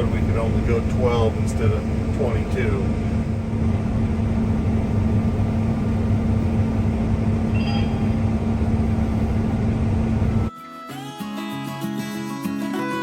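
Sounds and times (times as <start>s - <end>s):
heavy vehicle engine running: 0.0s - 10.5s.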